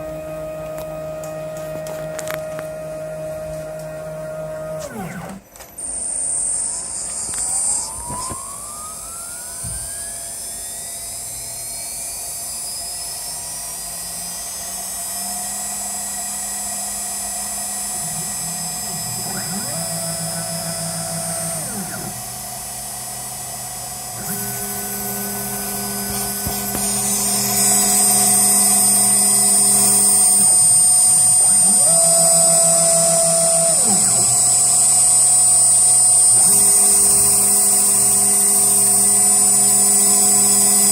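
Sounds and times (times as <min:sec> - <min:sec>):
router spindle whine: 0:00.0 - 0:40.9
stepper motors humming: 0:00.0 - 0:40.9.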